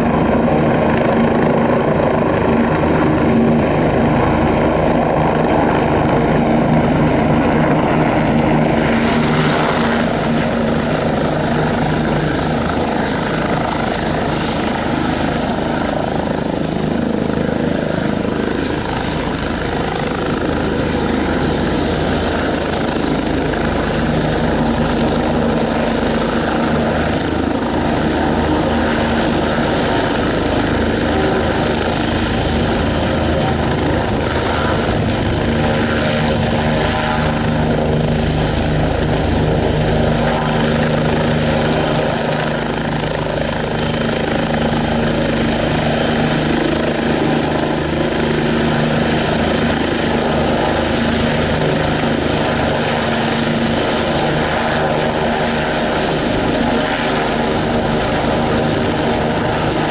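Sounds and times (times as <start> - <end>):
helicopter rotor noise: 0.0 - 59.9
helicopter turbine whine: 0.0 - 59.9.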